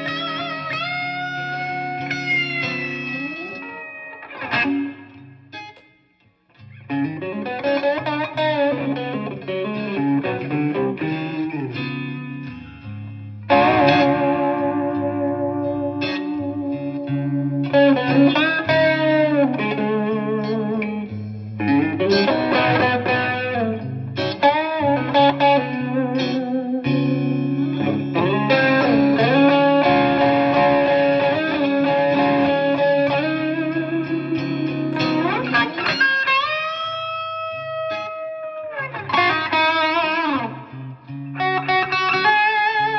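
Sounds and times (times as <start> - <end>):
electric guitar lead melody: 0.0 - 42.9.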